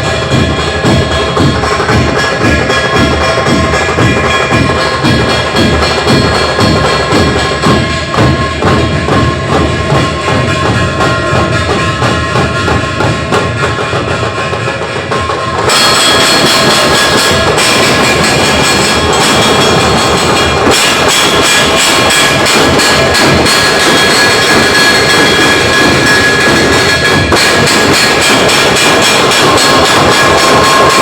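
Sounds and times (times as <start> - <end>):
deep drum beats: 0.0 - 31.0
metallic ringing: 0.0 - 31.0.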